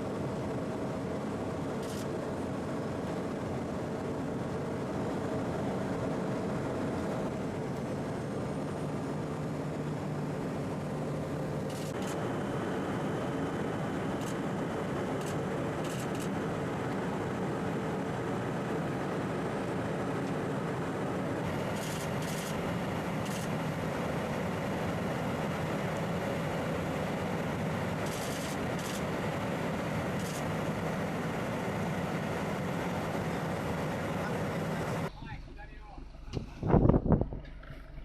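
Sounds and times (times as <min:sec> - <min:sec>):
engine drone with rushing noise: 0:00.0 - 0:38.0.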